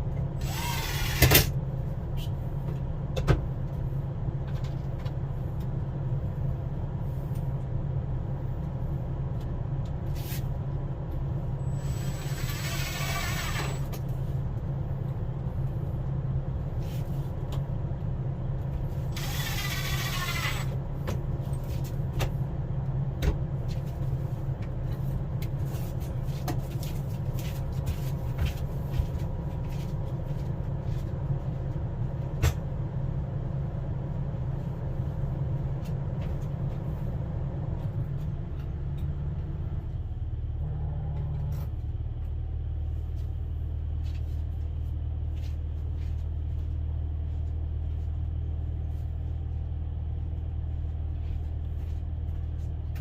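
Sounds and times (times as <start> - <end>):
low motor hum: 0.0 - 53.0.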